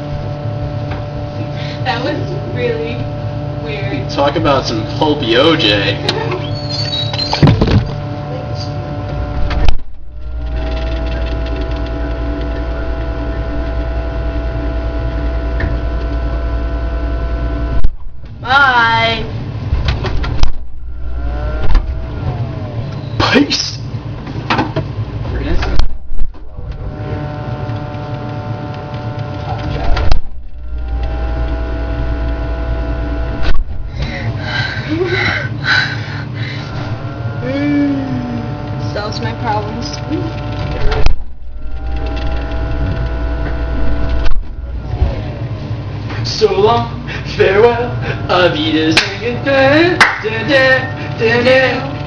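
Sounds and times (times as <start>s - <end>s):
refrigerator motor hum: 0.0s - 52.0s.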